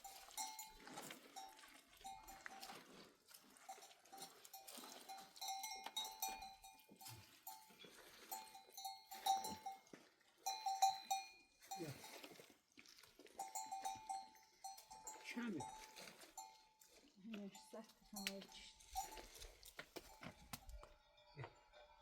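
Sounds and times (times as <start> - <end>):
livestock bells clanking: 0.0 - 12.4, 13.4 - 22.0.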